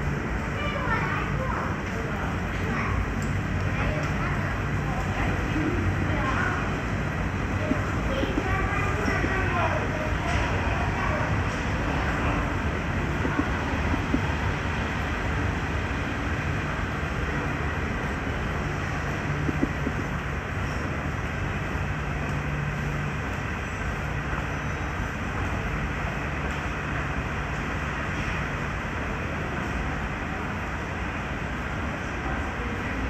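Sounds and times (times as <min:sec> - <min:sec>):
metro trains rushing: 0:00.0 - 0:33.0
street traffic: 0:00.0 - 0:33.0.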